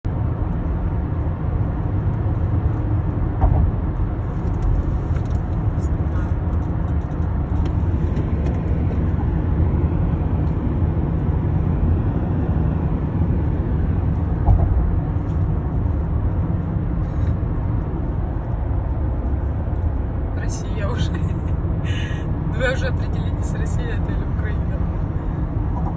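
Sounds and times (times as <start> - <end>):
road and tyre rumble: 0.0 - 25.9.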